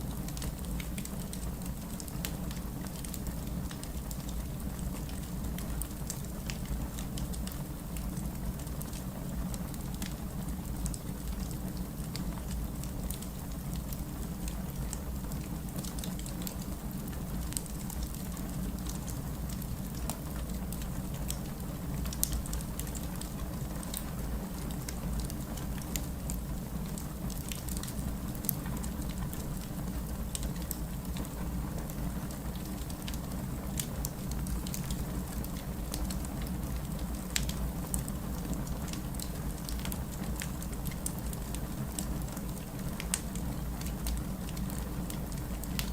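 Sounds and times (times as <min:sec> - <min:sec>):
steady rain: 0:00.0 - 0:45.9
wood fire crackling: 0:00.0 - 0:45.9.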